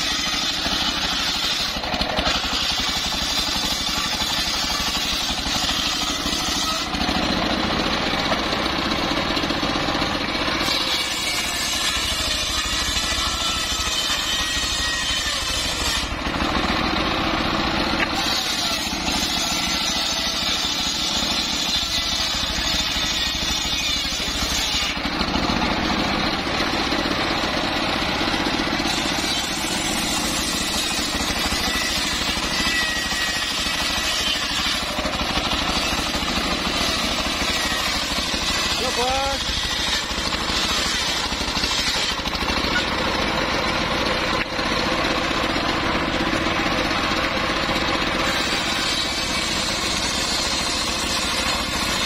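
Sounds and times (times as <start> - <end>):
circular saw engine running: 0.0 - 52.0
saw blade cutting wood: 0.0 - 52.0.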